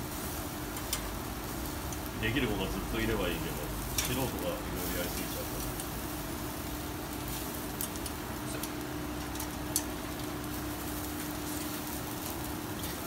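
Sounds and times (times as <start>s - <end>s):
skewers sizzling on a grill: 0.0s - 13.0s
steady low hum: 0.0s - 13.0s.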